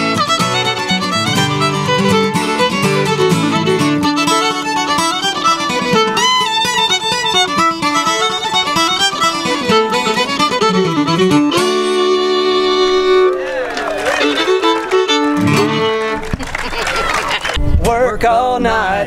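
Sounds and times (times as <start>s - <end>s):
acoustic guitar backing: 0.0s - 16.4s
fiddle playing bluegrass melody: 0.0s - 17.5s.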